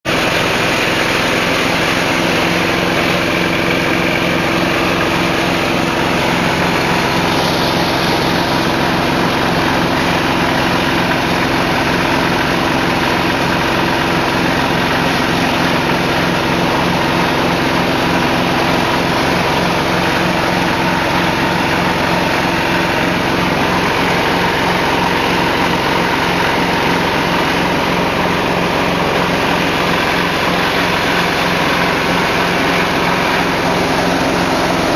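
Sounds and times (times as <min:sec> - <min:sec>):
chopper machine motor droning: 0:00.1 - 0:34.9.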